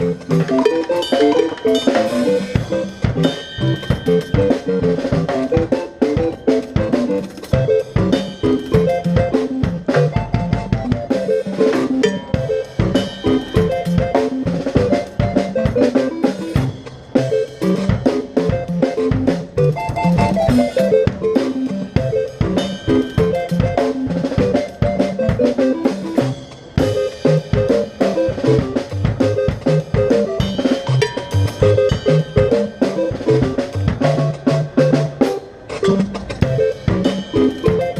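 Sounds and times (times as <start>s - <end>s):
drum kit beat: 0.0s - 37.9s
melody of short pitched notes: 0.0s - 37.9s.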